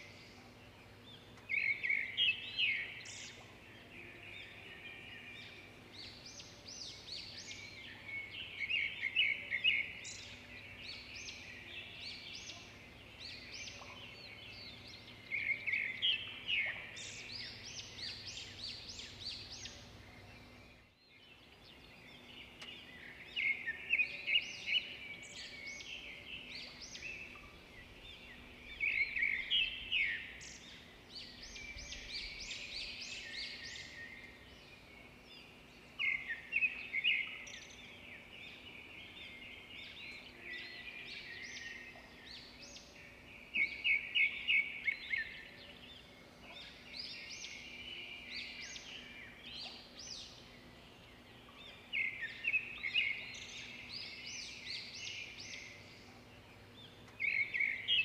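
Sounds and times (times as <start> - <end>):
faint steady background noise: 0.0 - 58.0
songbirds chirping: 0.0 - 58.0.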